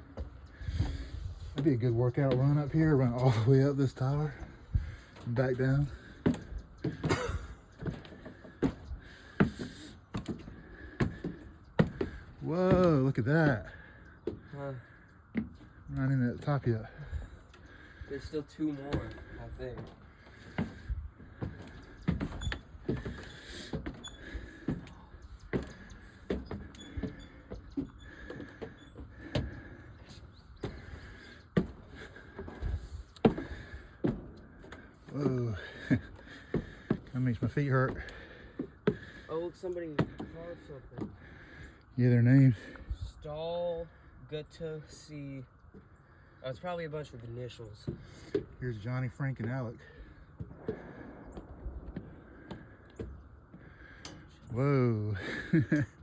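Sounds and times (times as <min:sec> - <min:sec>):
footsteps on tower steps: 0:00.0 - 0:42.9, 0:47.7 - 0:56.0.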